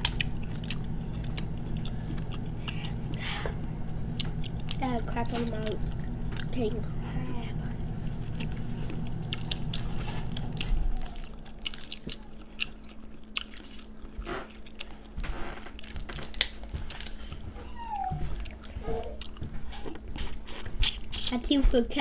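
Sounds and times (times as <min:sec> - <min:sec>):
low hum: 0:00.0 - 0:20.1
person chewing: 0:00.0 - 0:21.3.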